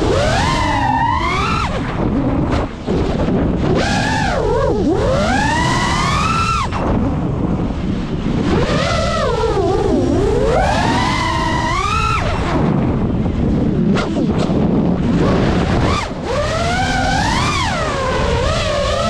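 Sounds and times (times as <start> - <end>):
drone motors whining: 0.0 - 7.2, 8.4 - 13.0, 15.3 - 19.0
wind noise rumble: 0.0 - 19.0.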